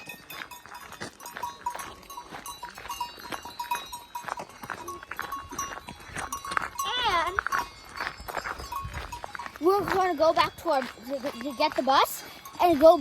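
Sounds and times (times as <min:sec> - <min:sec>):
cowbells clanking: 0:00.0 - 0:13.0.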